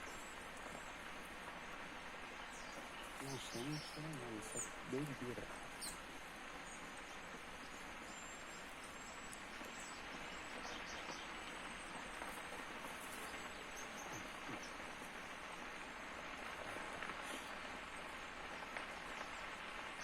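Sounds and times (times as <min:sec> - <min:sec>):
fire crackling: 0:00.0 - 0:20.0
fire rushing noise: 0:00.0 - 0:20.0.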